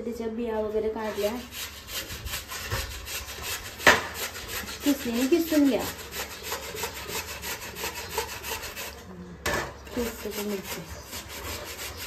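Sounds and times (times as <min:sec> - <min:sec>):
cucumber rasping on a metal grater: 0:01.0 - 0:09.0, 0:09.9 - 0:12.0.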